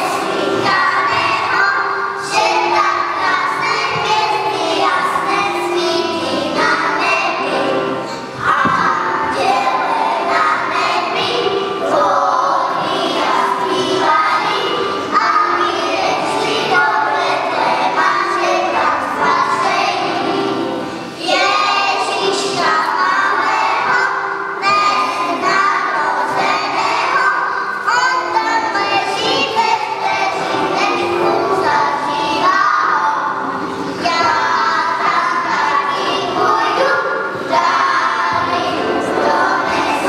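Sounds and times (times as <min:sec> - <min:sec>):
children singing a carol: 0:00.0 - 0:40.0.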